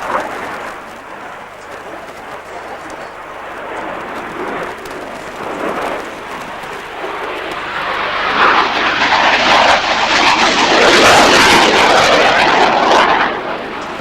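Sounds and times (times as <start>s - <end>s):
military jet passing low: 0.0s - 14.0s.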